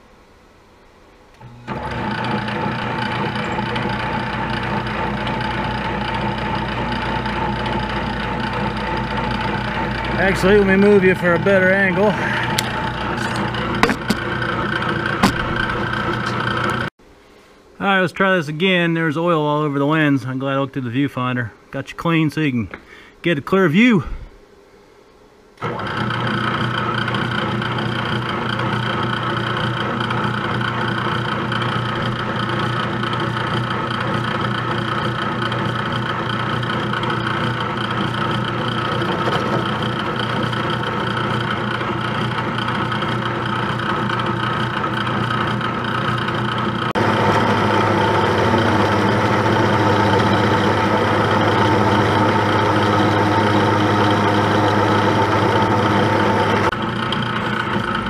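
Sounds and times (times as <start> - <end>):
milling machine cutting metal: 1.4 - 16.9, 25.6 - 58.0.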